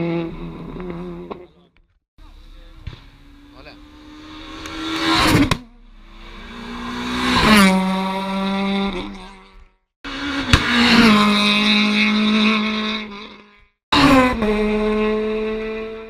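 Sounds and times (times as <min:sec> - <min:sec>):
rally cars passing at high revs: 0:00.0 - 0:16.0.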